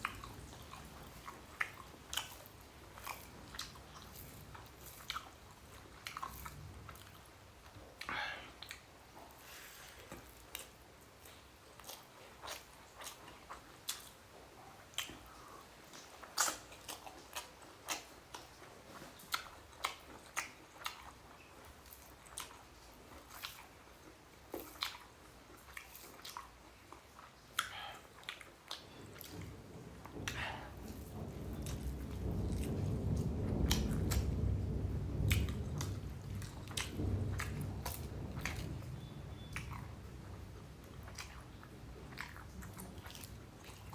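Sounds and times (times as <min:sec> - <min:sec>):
person chewing food wetly: 0:00.0 - 0:43.9.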